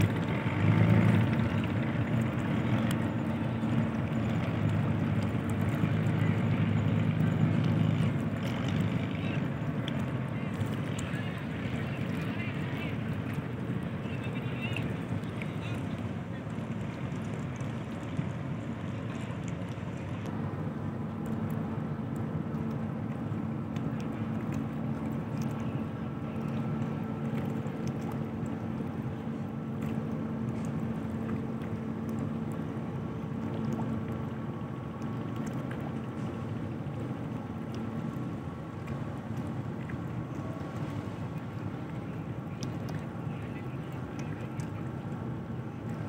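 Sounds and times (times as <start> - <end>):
ship engines droning: 0.0 - 46.0.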